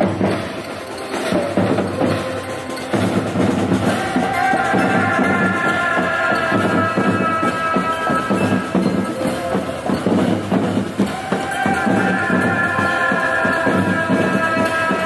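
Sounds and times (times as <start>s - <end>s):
music with steady drum beat: 0.0s - 15.0s.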